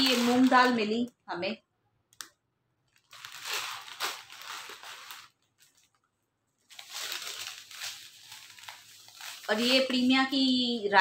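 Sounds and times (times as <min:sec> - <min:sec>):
plastic bags crinkling: 0:00.0 - 0:01.1, 0:02.8 - 0:11.0.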